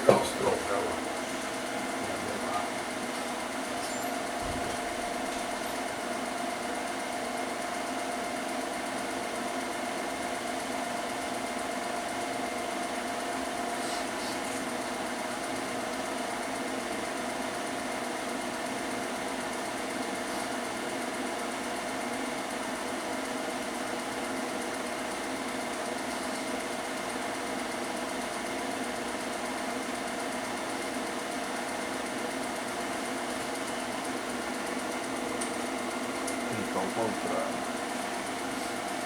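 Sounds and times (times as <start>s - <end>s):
film projector whirring: 0.0s - 39.0s.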